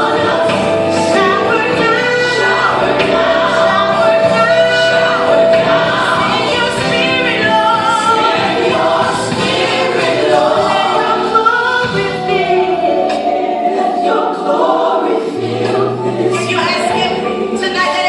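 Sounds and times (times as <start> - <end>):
choir singing gospel: 0.0 - 18.0
instrumental backing: 0.0 - 18.0.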